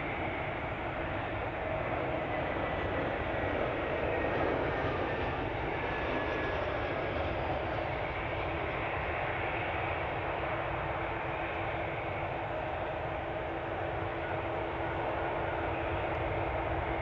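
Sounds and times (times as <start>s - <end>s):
faint high whine: 0.0s - 17.0s
jet engines running: 0.0s - 17.0s.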